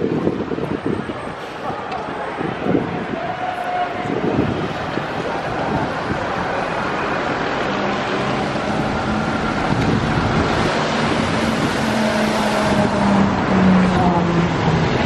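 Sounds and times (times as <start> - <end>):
bus engine hum: 0.0 - 15.0
passing engines: 0.0 - 15.0
tyres hissing on wet road: 0.0 - 15.0.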